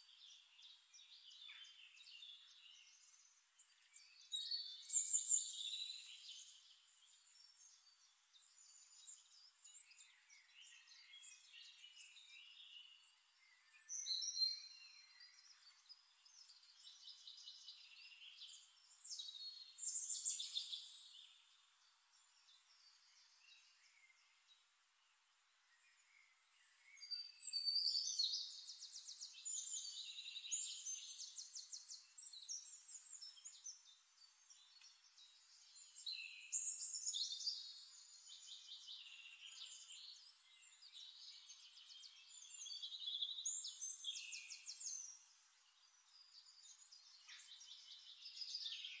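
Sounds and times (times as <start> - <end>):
songbird trilling and chirping: 0.0 - 24.6, 25.8 - 49.0.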